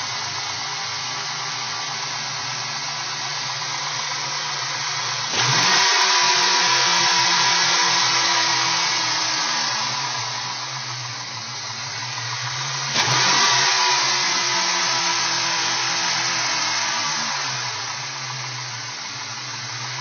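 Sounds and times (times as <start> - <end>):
car engine idling with hiss: 0.0 - 20.0.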